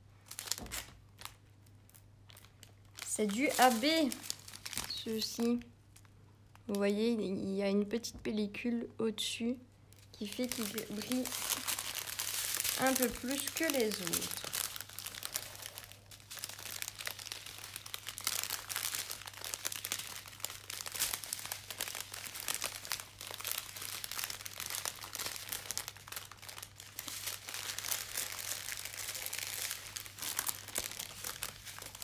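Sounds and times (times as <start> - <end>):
plastic packaging crinkling: 0.2 - 6.7, 9.9 - 32.0.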